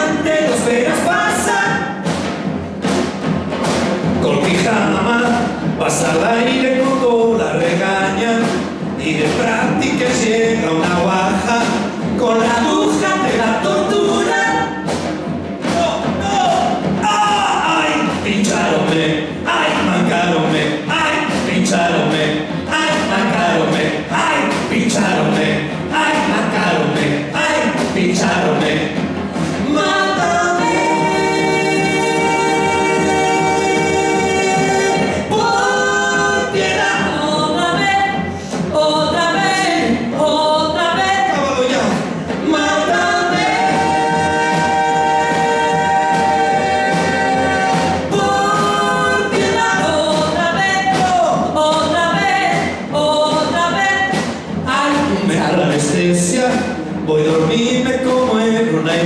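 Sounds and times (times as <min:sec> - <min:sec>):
group singing in chorus: 0:00.0 - 0:59.0.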